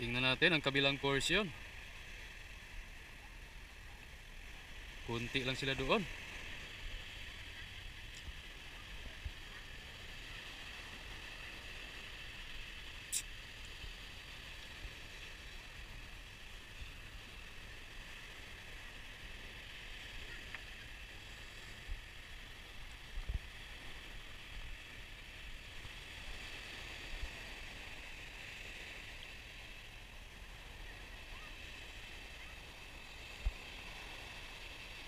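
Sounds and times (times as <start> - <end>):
surf washing onto sandy beach: 0.0 - 35.0.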